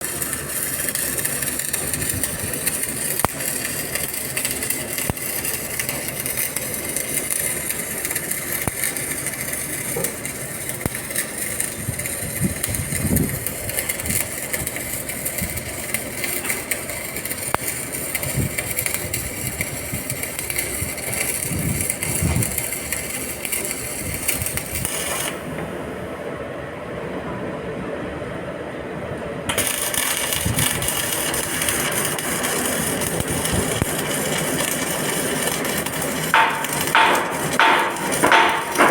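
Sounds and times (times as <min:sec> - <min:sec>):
arc welding crackling hiss: 0:00.0 - 0:25.6, 0:29.5 - 0:38.9.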